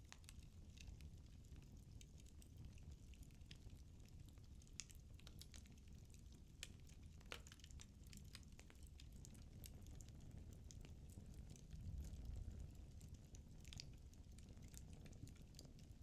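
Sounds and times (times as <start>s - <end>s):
fireplace fire crackling: 0.1s - 16.0s.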